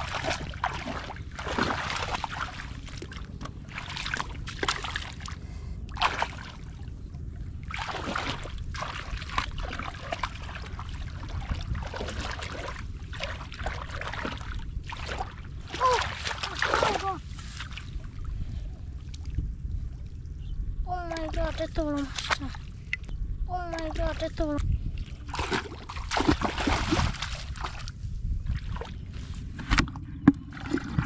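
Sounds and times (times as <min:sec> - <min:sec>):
muddy water sloshing and splashing: 0:00.0 - 0:31.0
steady low rumble: 0:00.0 - 0:31.0.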